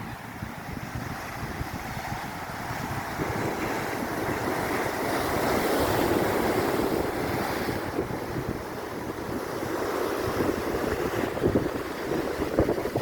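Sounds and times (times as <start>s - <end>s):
ocean surf washing in: 0.0s - 13.0s
wind buffeting microphone: 0.0s - 13.0s.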